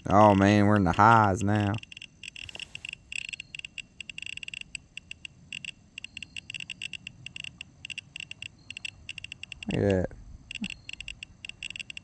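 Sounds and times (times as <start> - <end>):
radiation detector chirps: 0.0 - 12.0.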